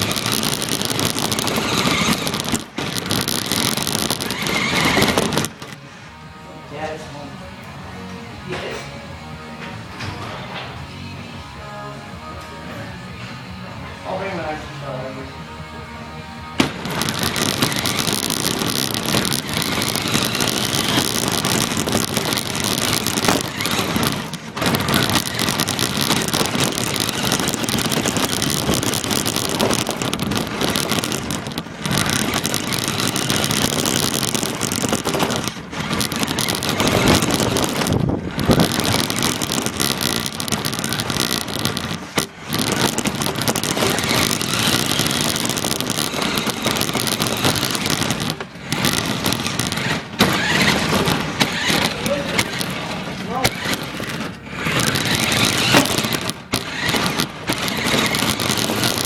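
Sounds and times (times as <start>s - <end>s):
radio-controlled car driving: 0.0s - 5.8s, 16.8s - 59.0s.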